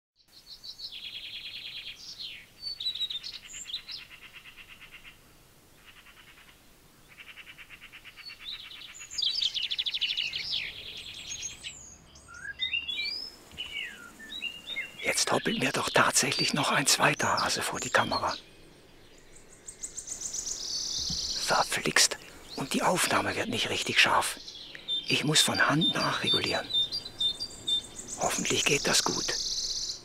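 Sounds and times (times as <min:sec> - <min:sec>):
songbirds trilling: 0:00.3 - 0:30.0.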